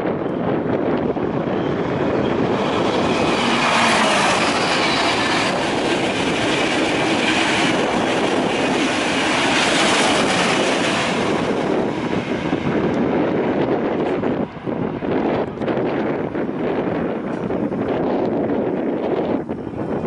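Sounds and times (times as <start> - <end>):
high-speed train rushing past: 0.0 - 20.0.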